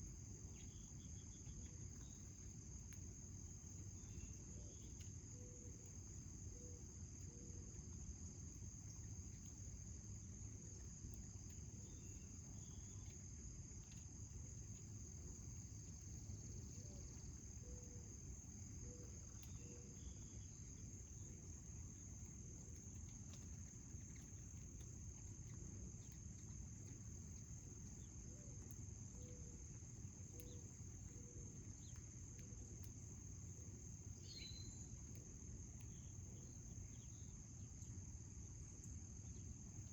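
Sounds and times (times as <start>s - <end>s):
insects trilling: 0.0s - 7.8s, 8.5s - 39.9s.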